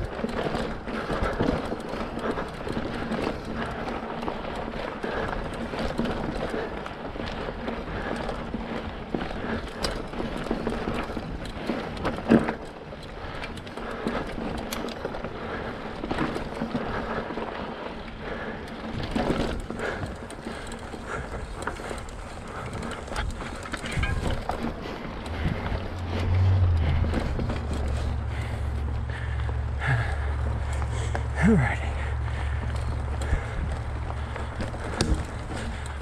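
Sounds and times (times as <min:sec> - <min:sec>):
bike rattling and knocking: 0:00.0 - 0:36.0
bike tyres rolling on dirt: 0:00.0 - 0:36.0.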